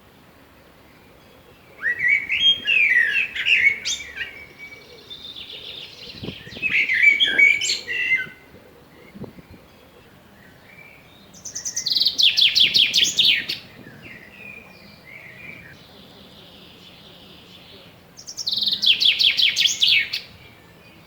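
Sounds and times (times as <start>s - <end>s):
soft bird twittering: 0.8s - 21.0s
songbird warbling: 0.8s - 21.0s.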